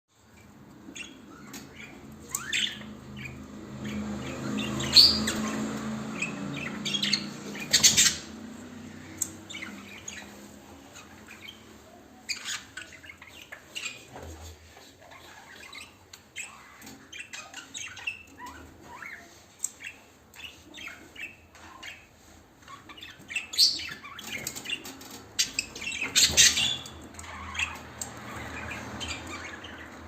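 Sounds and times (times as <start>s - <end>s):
lovebirds chirping and squawking: 0.2s - 30.0s.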